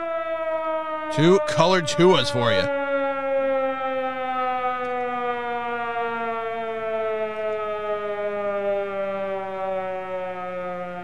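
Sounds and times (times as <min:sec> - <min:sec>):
alarm siren winding down: 0:00.0 - 0:11.0.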